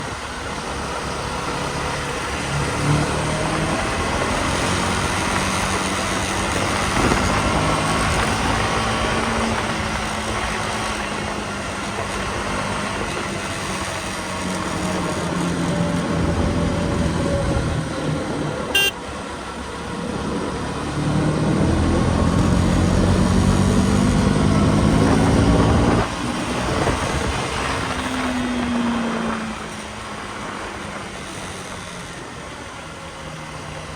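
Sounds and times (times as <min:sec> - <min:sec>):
wind and road noise: 0:00.0 - 0:33.9
motorcycle engine accelerating: 0:01.0 - 0:19.0, 0:20.0 - 0:30.1.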